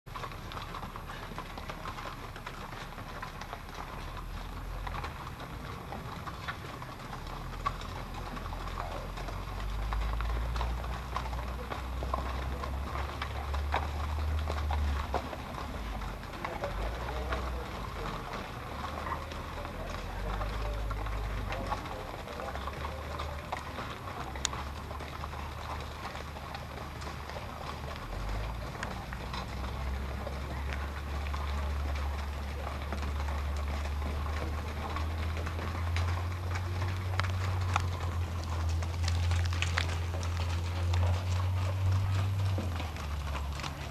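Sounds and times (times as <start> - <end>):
mule hooves clopping on rocky trail: 0.0 - 43.9.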